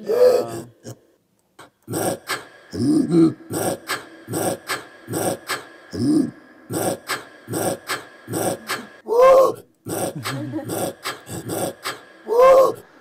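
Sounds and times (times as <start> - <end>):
rising and falling grunts: 0.0 - 1.0, 1.9 - 13.0
rhythmic throat grunts: 0.0 - 13.0.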